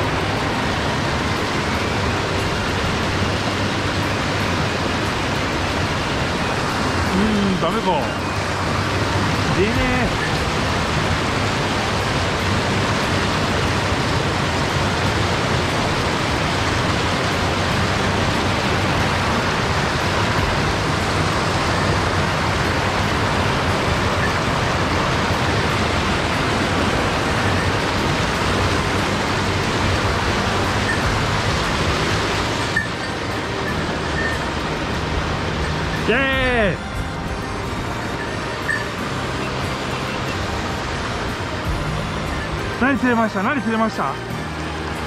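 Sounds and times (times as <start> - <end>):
stream rushing over rocks: 0.0 - 45.0.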